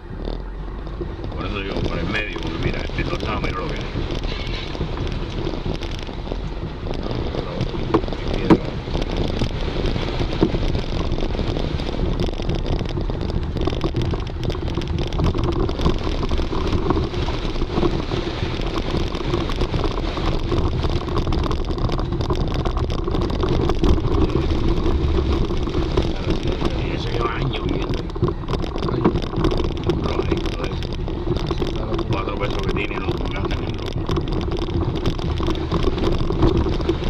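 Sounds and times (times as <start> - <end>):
knocks and rattles from bumps: 0.0 - 37.0
vehicle engine droning: 0.0 - 37.0.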